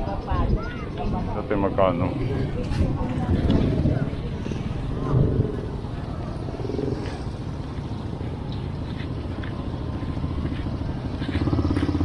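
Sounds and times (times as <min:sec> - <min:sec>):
street noise: 0:00.0 - 0:12.0
vehicle engine idling: 0:01.6 - 0:12.0.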